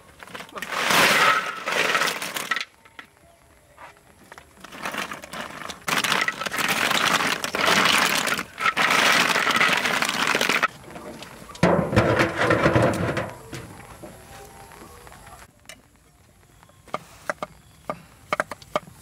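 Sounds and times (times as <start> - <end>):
crinkling and rustling: 0.0 - 17.6.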